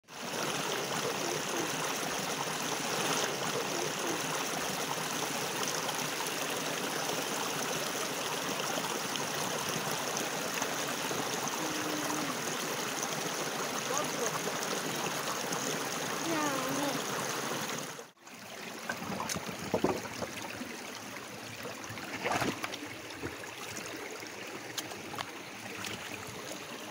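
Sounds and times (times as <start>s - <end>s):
stream rushing over stones: 0.1s - 26.9s.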